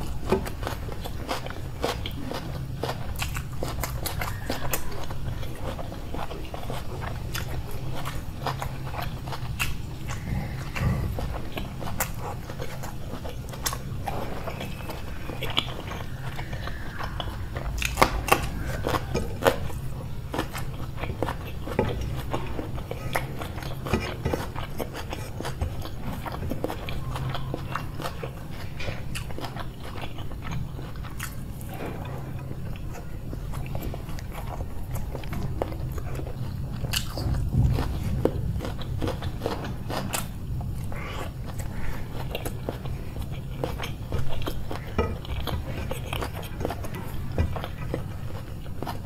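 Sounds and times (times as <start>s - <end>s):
person chewing and crunching food: 0.0s - 49.0s
steady low hum: 0.0s - 49.0s.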